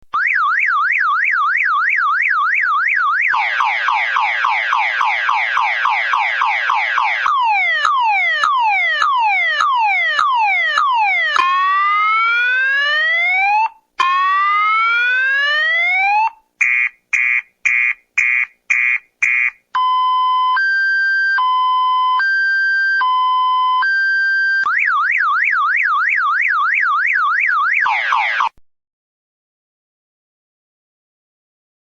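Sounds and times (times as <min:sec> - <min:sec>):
car alarm siren: 0:00.1 - 0:28.6.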